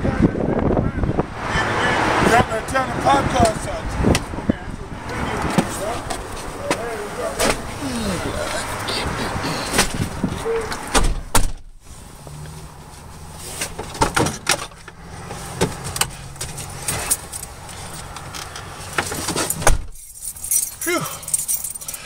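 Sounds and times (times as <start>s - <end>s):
car engine: 0.0s - 22.0s.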